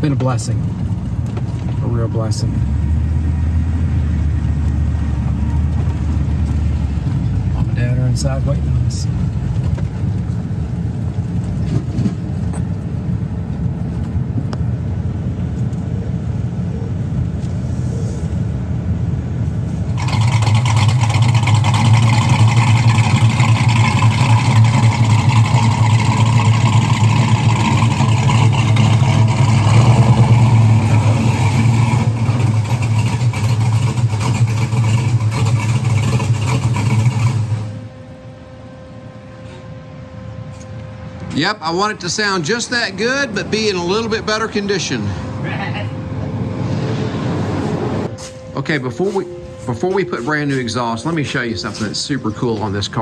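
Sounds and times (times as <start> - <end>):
car engine low rumble: 0.0 - 53.0
engine running through exhaust: 0.0 - 53.0.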